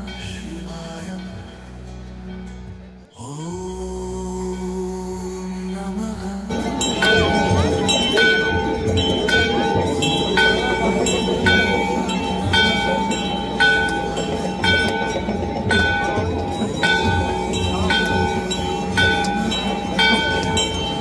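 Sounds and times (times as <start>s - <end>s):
bells ringing: 0.0s - 3.1s, 4.4s - 21.0s
low rumble: 0.0s - 21.0s
steady drone: 0.0s - 21.0s.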